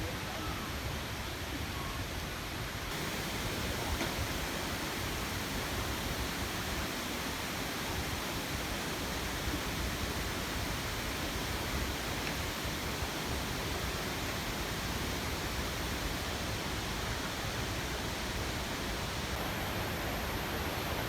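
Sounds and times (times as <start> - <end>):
waterfall rushing: 2.9 - 21.0.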